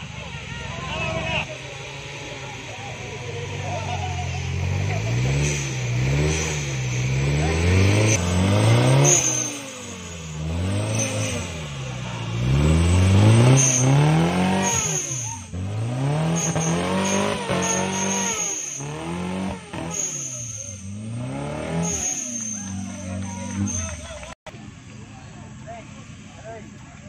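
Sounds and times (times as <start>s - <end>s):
buggy engine revving hard: 0.9s - 24.4s.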